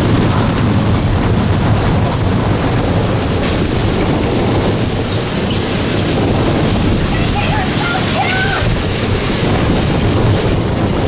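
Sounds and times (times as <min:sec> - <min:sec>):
heavy driven rain: 0:00.0 - 0:11.0
hurricane winds: 0:00.0 - 0:11.0
wind buffeting microphone: 0:00.0 - 0:11.0.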